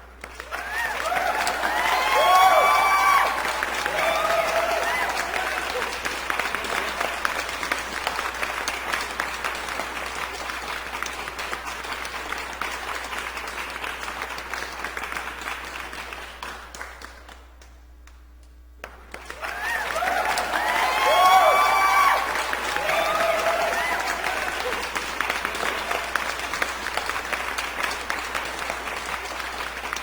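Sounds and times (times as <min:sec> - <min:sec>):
crowd applause: 0:00.0 - 0:17.2, 0:18.8 - 0:30.0.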